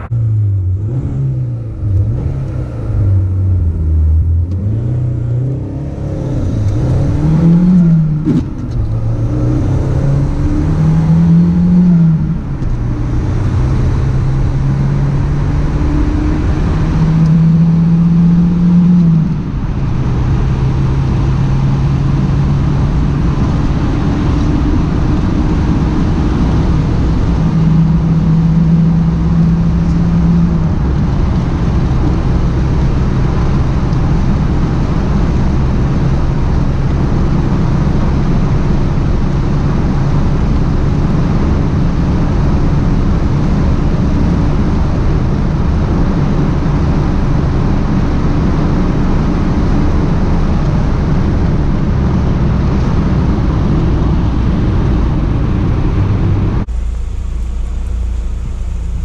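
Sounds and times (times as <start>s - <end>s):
car engine from inside cabin: 0.0s - 59.0s
road noise: 0.0s - 59.0s.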